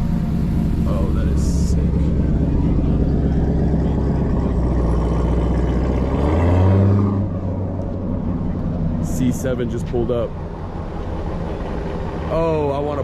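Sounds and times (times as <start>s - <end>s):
car engine rumbling: 0.0s - 13.0s
car pulling up: 0.0s - 13.0s.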